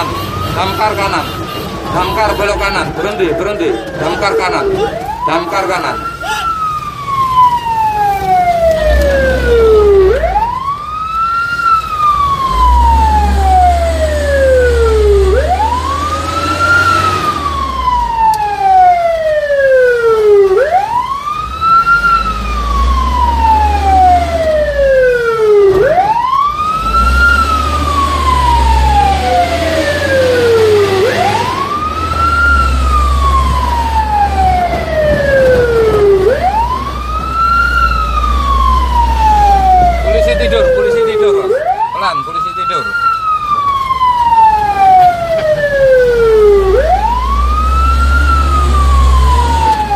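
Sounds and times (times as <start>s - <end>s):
fire truck siren wailing: 0.0s - 49.9s
truck engine rumbling: 0.0s - 49.9s.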